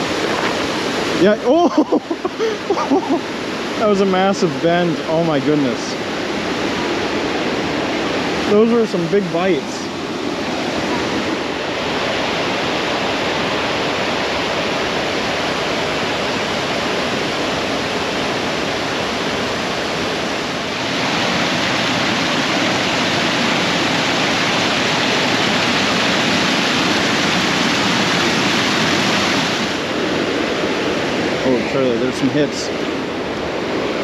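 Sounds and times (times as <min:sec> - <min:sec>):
water rushing over dam: 0:00.0 - 0:34.0.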